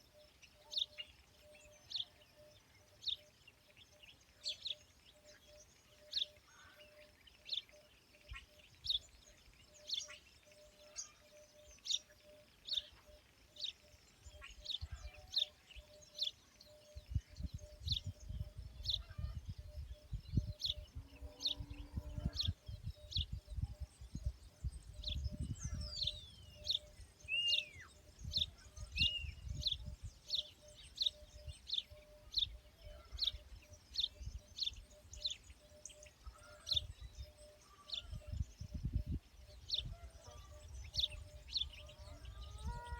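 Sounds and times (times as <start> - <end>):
bird chirping: 0.0 - 42.9.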